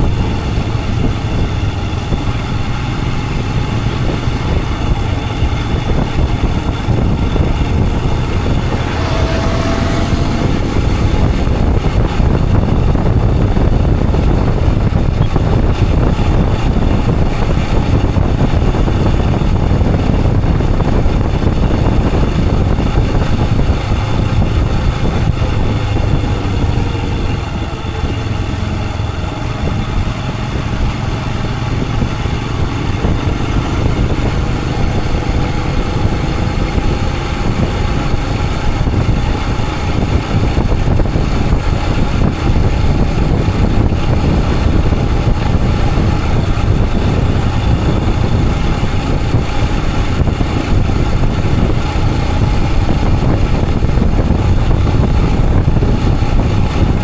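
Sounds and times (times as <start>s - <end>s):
motorcycle engine running: 0.0s - 57.0s
road noise rush: 0.0s - 57.0s.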